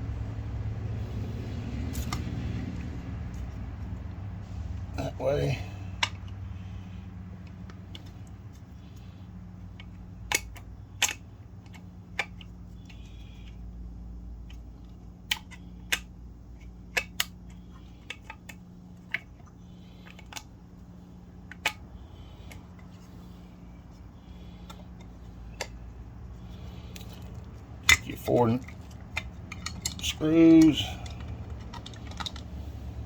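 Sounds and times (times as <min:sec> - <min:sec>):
steady low hum: 0:00.0 - 0:33.0
pump parts clicking: 0:05.0 - 0:33.0.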